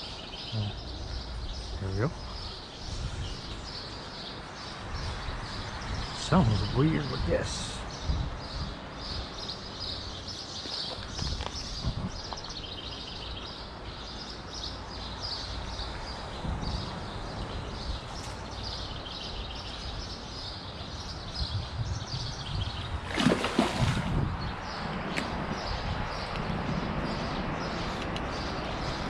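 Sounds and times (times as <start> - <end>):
outdoor background hiss: 0.0 - 29.0
small birds chirping: 0.0 - 29.0.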